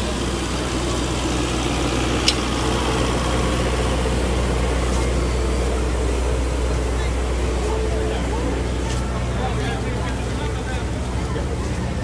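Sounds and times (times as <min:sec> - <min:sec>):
locomotive engine idling: 0:00.0 - 0:12.0.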